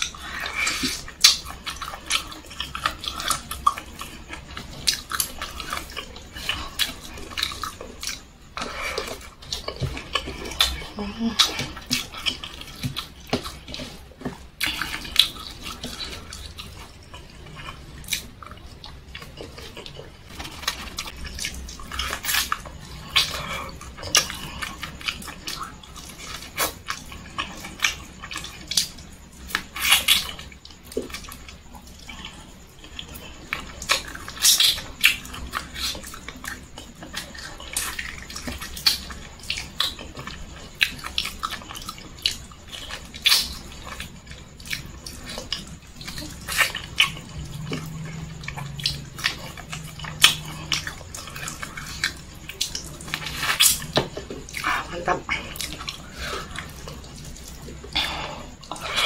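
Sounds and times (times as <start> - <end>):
wet lip-smacking while chewing: 0.0 - 59.0.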